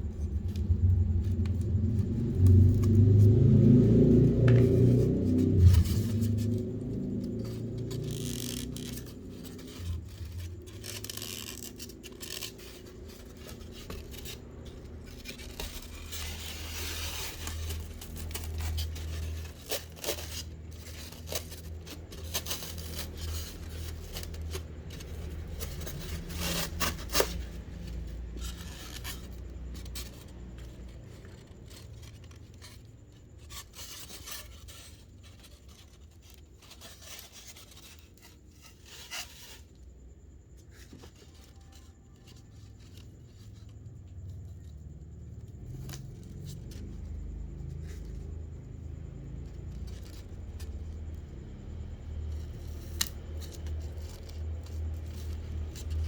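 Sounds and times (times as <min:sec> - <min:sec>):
low steady hum: 0:00.0 - 0:56.0
rubbing and scraping handling noise: 0:00.0 - 0:56.0.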